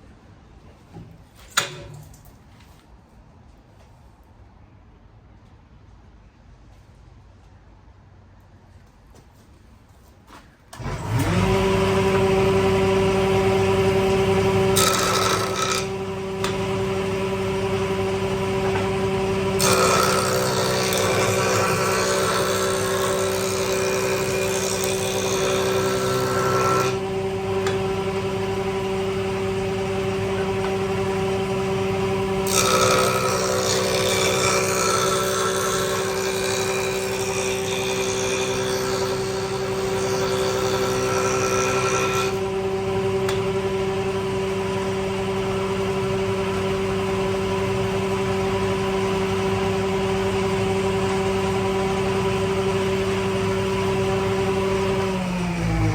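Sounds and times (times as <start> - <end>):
electric power tool motor hum: 10.8 - 55.9
power tool cutting wood: 10.8 - 55.9.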